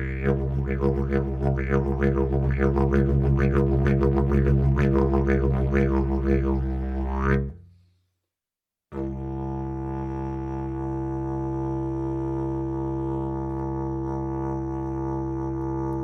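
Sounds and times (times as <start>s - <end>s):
didgeridoo drone: 0.0s - 7.6s, 9.0s - 16.0s.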